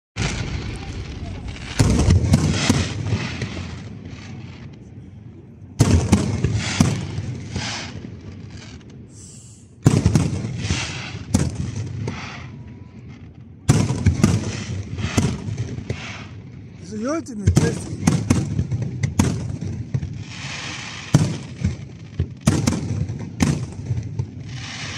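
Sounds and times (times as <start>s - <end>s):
fireworks bangs and bursts: 0.2s - 24.9s.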